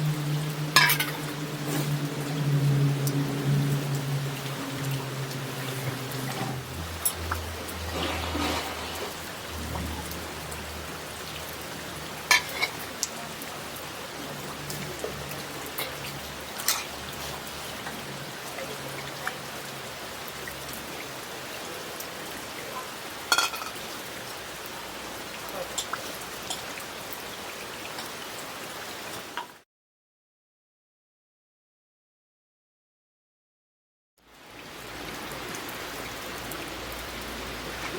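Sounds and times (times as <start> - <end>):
steady rain: 0.0 - 29.6, 34.2 - 37.9.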